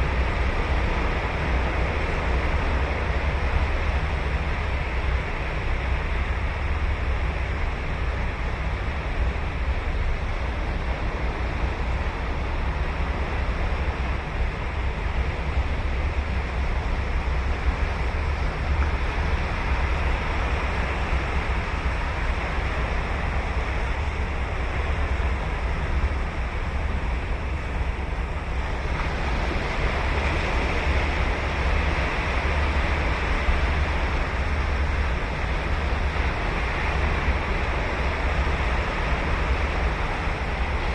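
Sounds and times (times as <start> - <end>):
waves breaking on beach: 0.0 - 40.9.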